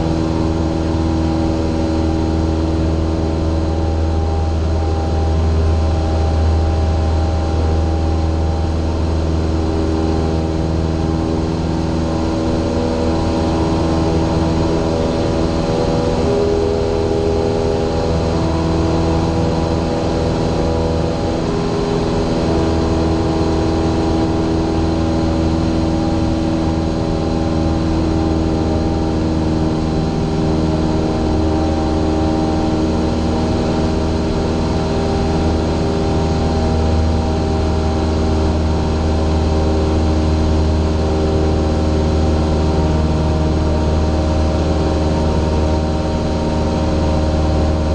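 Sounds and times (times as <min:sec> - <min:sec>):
light aircraft engine drone: 0:00.0 - 0:47.9.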